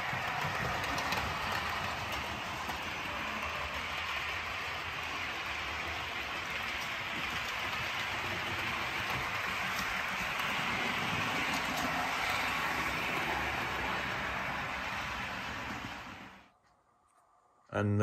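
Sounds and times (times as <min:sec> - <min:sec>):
model train wheels rumbling: 0:00.0 - 0:16.5.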